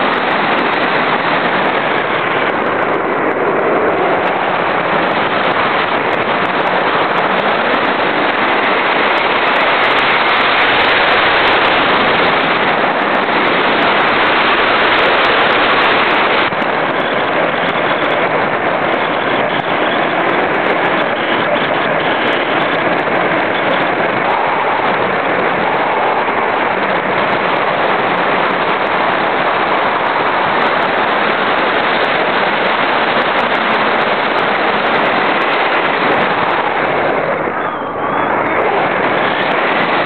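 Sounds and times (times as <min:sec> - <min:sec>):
rushing wind noise: 0:00.0 - 0:40.0.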